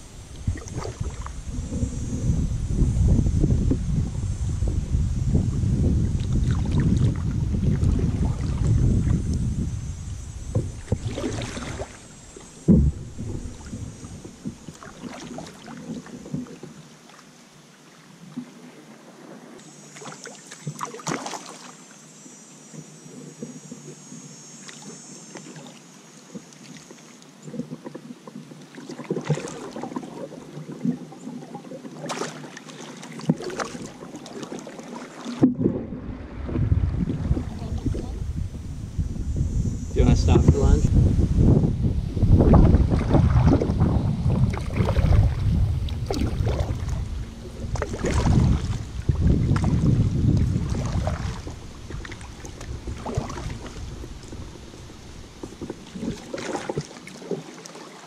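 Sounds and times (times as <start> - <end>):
paddles splashing in water: 0.0 - 2.4, 6.0 - 21.9, 24.6 - 39.0, 42.3 - 58.0.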